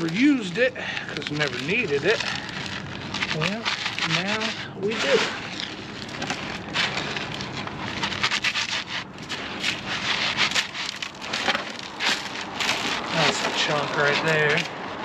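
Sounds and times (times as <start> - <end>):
salt granules hissing and crunching: 0.0 - 15.0
sharp crackles of clumps breaking: 0.0 - 15.0.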